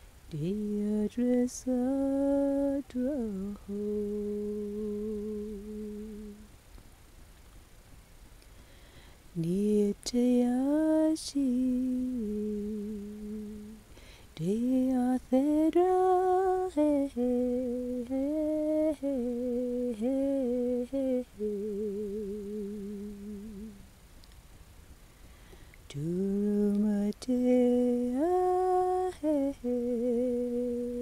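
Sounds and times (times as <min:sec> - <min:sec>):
person humming a melody: 0:00.3 - 0:06.5, 0:09.4 - 0:13.8, 0:14.4 - 0:23.9, 0:25.9 - 0:31.0.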